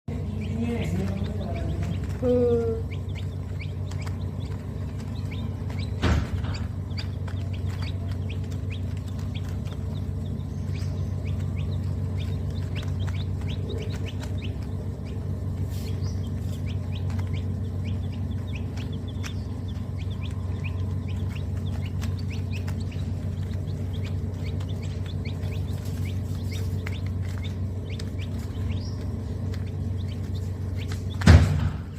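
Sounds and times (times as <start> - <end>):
birds chirping: 0.1 - 31.9
steady low hum: 0.1 - 31.9.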